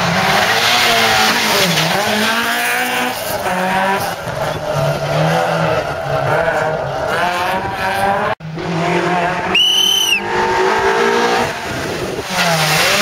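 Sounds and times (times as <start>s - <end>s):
rally car engines revving: 0.0s - 13.0s.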